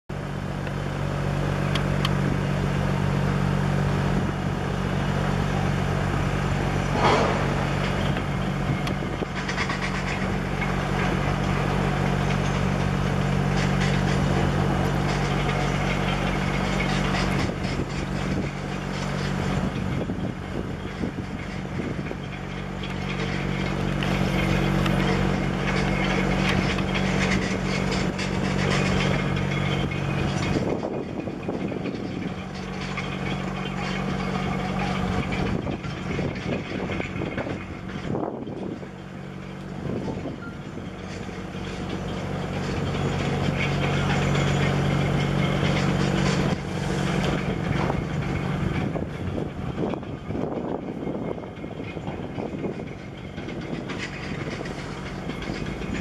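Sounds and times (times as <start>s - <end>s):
low engine drone: 0.0s - 56.0s
outdoor noise: 0.0s - 56.0s.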